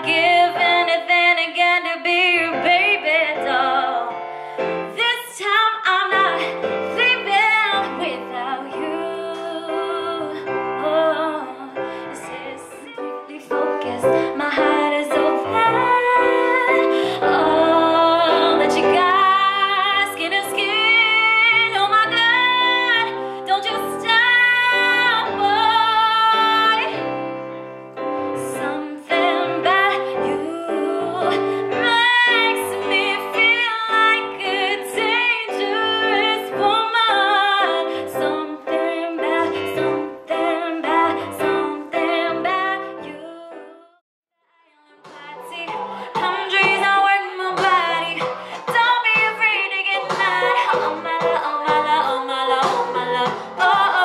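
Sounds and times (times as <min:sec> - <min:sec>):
woman singing into a microphone: 0:00.0 - 0:27.2, 0:28.2 - 0:44.0, 0:44.7 - 0:54.0.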